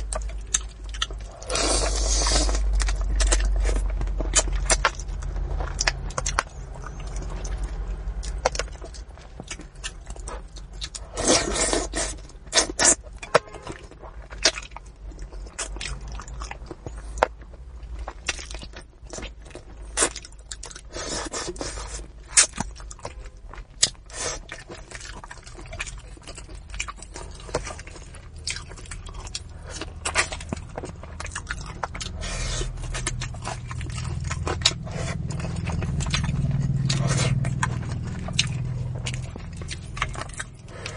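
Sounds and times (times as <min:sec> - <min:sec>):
chewing and mouth clicks: 0:00.0 - 0:40.9
low steady hum: 0:00.0 - 0:40.9.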